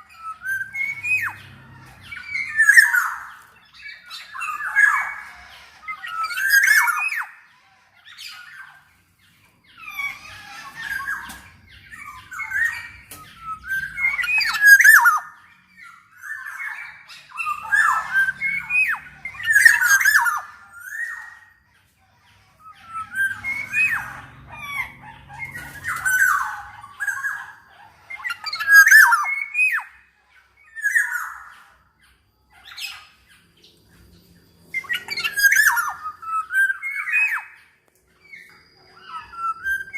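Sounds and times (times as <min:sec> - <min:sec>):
oriole whistled calls: 0:00.0 - 0:39.9.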